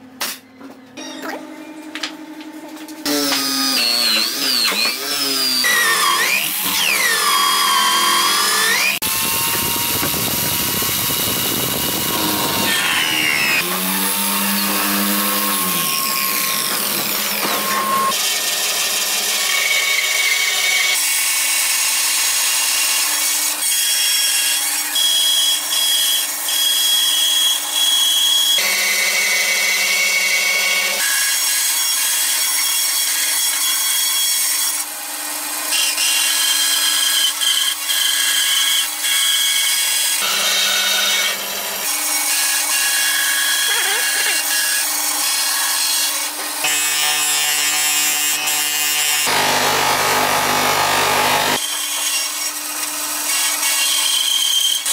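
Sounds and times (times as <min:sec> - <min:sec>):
band saw cutting wood: 0:03.0 - 0:54.9
electric drill boring into wood: 0:03.0 - 0:54.9.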